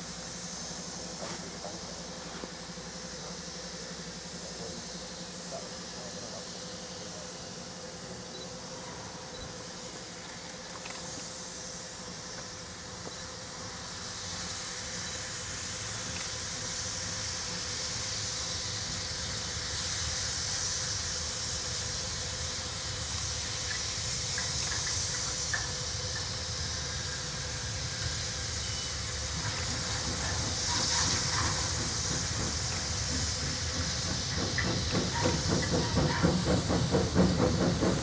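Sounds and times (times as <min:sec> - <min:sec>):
locomotive low rumble: 0:00.0 - 0:19.7, 0:21.1 - 0:38.0
steam hissing: 0:00.0 - 0:38.0.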